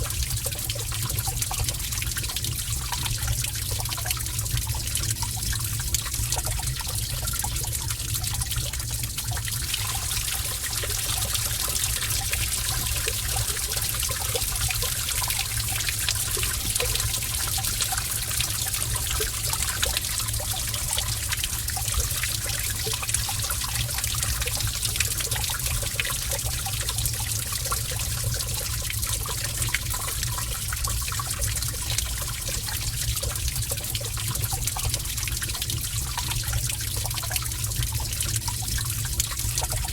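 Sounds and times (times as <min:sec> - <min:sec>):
water trickling: 0:00.0 - 0:39.9
water drips: 0:00.2 - 0:39.9.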